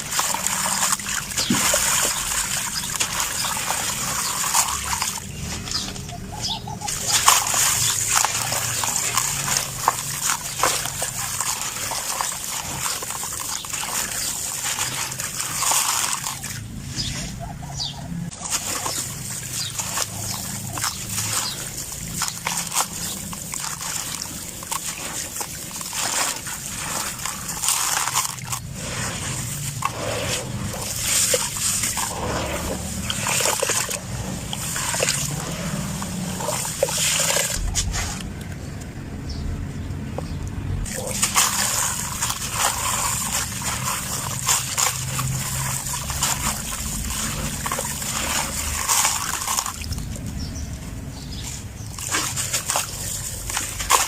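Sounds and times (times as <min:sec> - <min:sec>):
sand cement crumbling and crunching: 0:00.0 - 0:39.5, 0:40.2 - 0:54.0.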